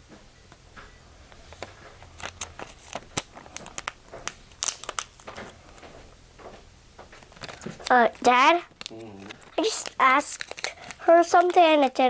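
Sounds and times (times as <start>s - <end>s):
crinkles and sharp clicks: 1.3s - 12.0s.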